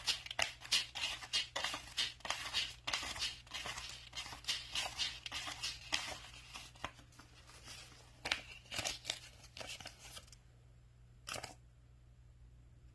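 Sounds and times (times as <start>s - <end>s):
banknotes crinkling and rustling: 0.0s - 10.4s.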